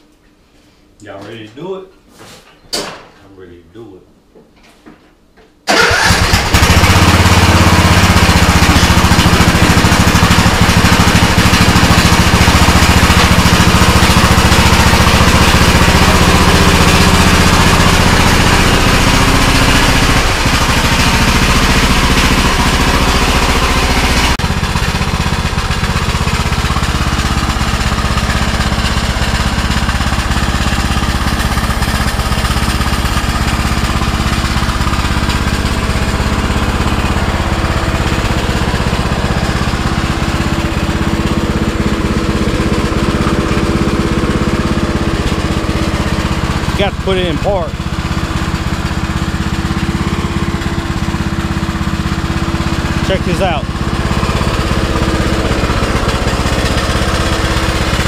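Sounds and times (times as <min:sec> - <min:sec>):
riding lawn mower engine running: 0:05.7 - 0:58.0.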